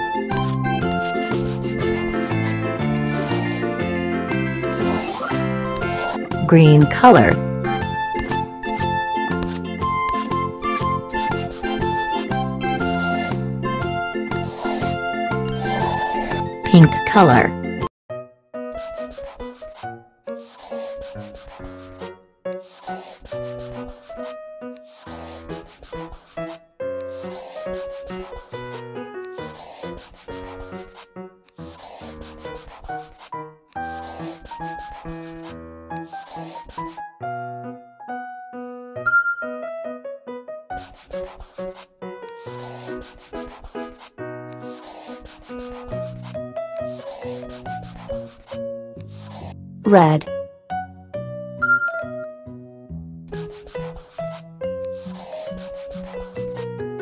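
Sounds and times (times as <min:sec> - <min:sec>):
pen scratching on paper: 0:00.0 - 0:03.8, 0:04.6 - 0:07.4, 0:08.2 - 0:13.4, 0:14.3 - 0:17.5, 0:18.7 - 0:37.0, 0:40.7 - 0:50.2, 0:53.3 - 0:56.7
light background tune: 0:00.0 - 0:40.0, 0:40.8 - 0:52.8.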